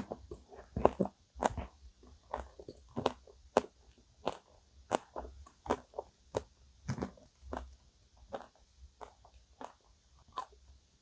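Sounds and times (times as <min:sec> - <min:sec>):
chewing: 0:00.0 - 0:10.7.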